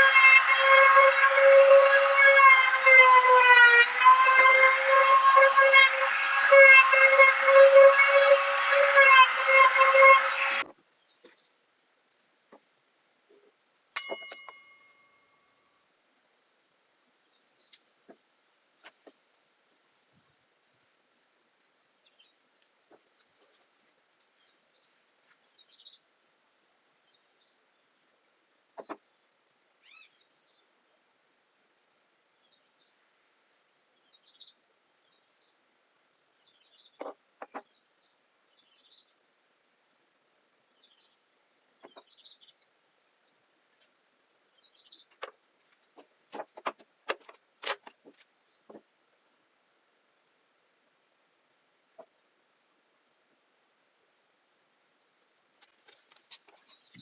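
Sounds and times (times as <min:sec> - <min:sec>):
crickets droning: 0:00.0 - 0:57.0.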